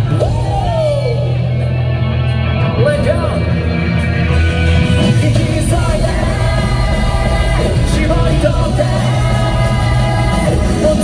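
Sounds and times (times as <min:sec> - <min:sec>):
rock band playing live: 0:00.0 - 0:11.0
singer holding long notes: 0:00.0 - 0:11.0.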